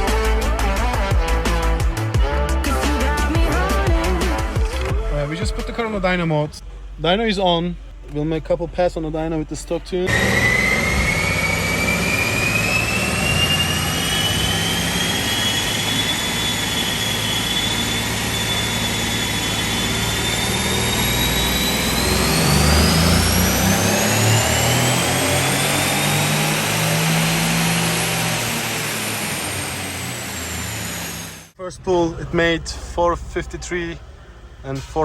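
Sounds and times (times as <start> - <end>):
engine whine rising in pitch: 0.0 - 34.8.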